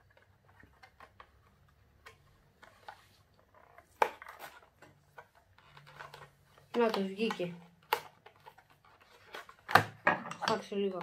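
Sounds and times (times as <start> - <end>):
plastic blister pack crackling: 0.0 - 10.0.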